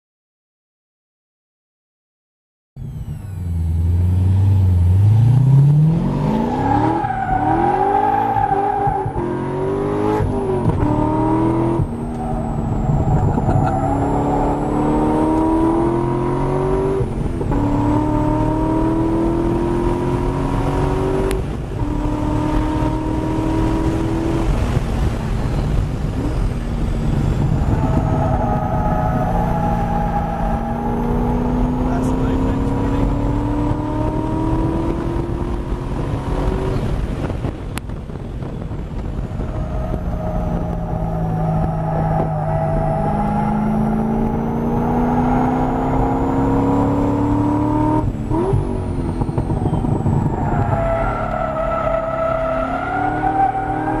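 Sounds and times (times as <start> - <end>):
car engine accelerating hard: 2.8 - 54.0.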